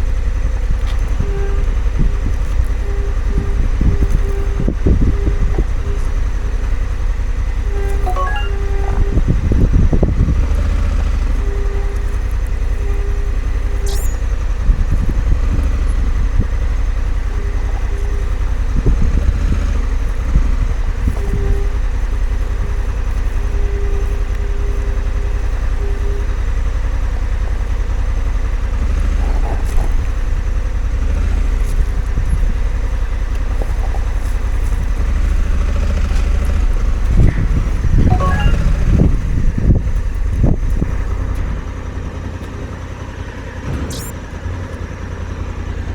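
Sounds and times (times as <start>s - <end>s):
motorcycle engine rumbling: 0.0s - 45.9s.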